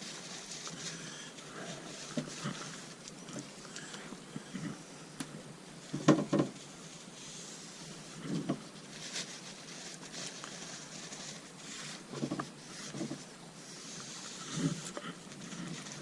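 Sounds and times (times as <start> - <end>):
rustles: 0.0 - 16.0.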